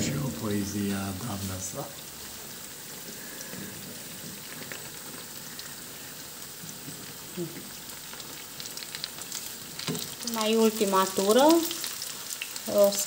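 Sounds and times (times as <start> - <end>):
faint crackles: 0.0 - 13.0
food sizzling in hot oil: 0.0 - 13.0.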